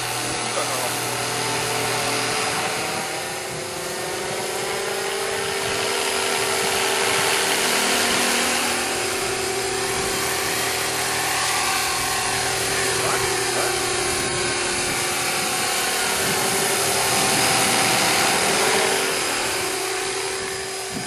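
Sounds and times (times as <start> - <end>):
high motor whine: 0.0 - 21.0
rotor rushing: 0.0 - 21.0.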